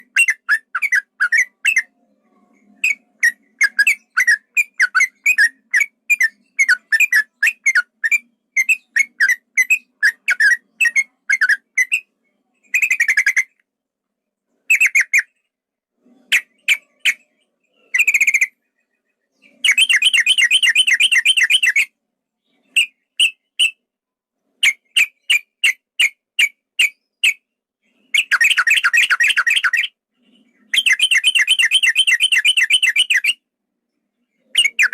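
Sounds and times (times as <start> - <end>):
bulbul singing: 0.0 - 13.6, 16.3 - 23.8, 24.6 - 33.4, 34.2 - 34.9.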